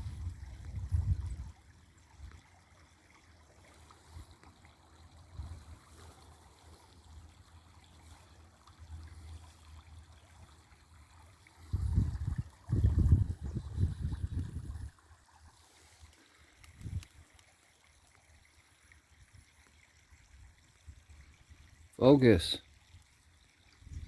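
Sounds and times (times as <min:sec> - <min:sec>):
creek water trickling: 0:00.0 - 0:24.0.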